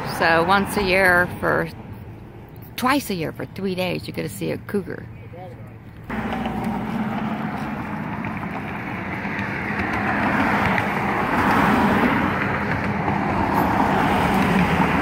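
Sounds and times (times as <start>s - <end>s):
vehicle engine and tyres on road: 0.0s - 15.0s.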